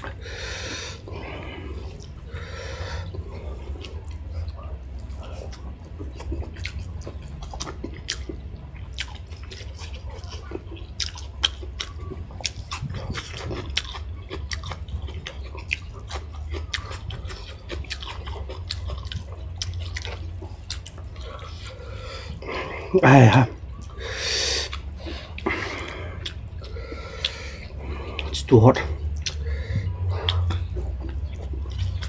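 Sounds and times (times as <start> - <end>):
chewing and mouth smacks: 0.0 - 22.9, 23.5 - 32.0
steady low hum: 0.0 - 32.0.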